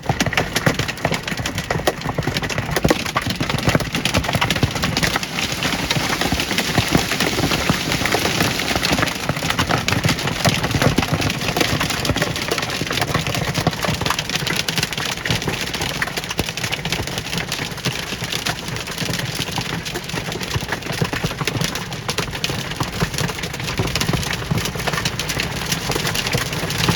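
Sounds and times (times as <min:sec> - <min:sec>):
hailstones clattering: 0:00.0 - 0:26.9.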